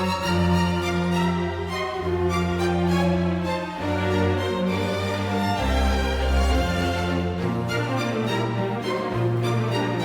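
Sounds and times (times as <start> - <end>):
orchestral string tones: 0.0 - 10.0.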